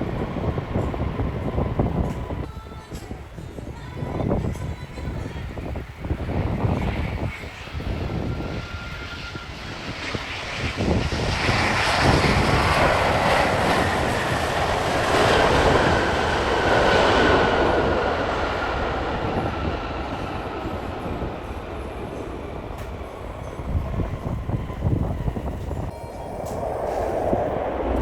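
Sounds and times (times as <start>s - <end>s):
jet engines passing: 0.0s - 28.0s
steady engine whine: 0.0s - 28.0s.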